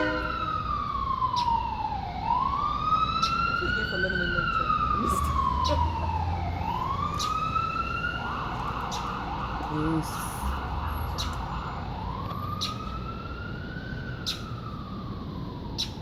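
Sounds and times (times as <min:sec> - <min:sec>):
emergency vehicle siren: 0:00.0 - 0:16.0.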